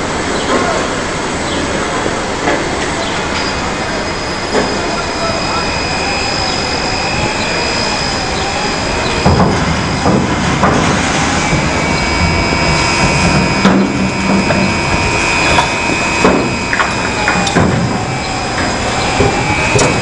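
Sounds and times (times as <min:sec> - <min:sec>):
gantry crane machinery whining: 0:00.0 - 0:20.0.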